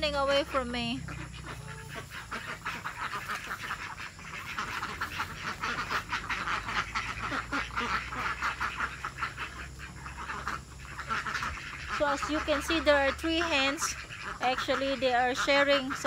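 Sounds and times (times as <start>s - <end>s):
flock of ducks quacking: 0.0s - 16.0s.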